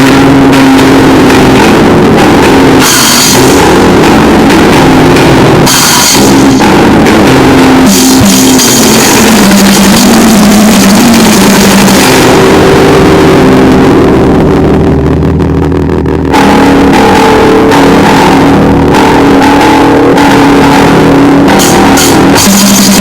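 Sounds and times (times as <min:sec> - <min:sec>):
noisegrind music: 0:00.0 - 0:23.0.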